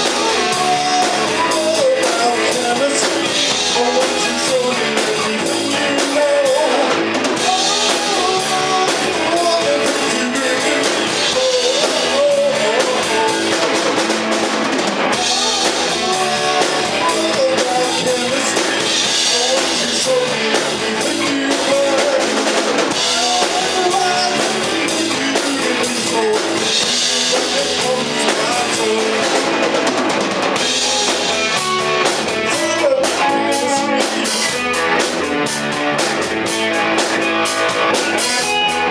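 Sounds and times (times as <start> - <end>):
drum kit beat: 0.0 - 38.9
electric bass: 0.0 - 38.9
electric guitar: 0.0 - 38.9.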